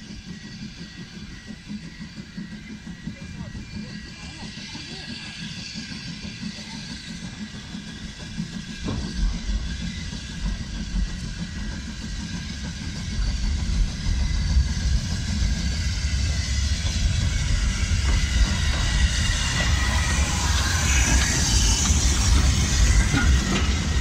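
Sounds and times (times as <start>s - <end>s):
steam train rumbling: 0.0s - 24.0s.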